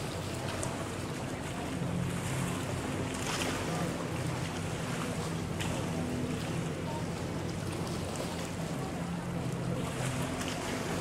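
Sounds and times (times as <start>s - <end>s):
speedboat engine running: 0.0s - 11.0s
water rushing: 0.0s - 11.0s.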